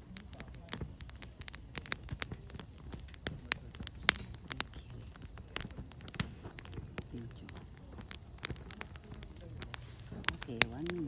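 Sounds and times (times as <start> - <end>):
low background rumble: 0.0 - 11.0
wood fire crackling: 0.0 - 11.0.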